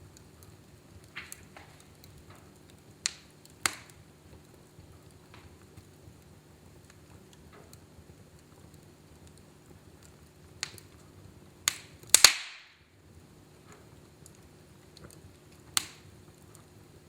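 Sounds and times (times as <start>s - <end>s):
fire popping with hiss: 0.0s - 17.0s
fireplace fire crackling: 0.0s - 17.0s
low steady hum: 0.0s - 17.0s.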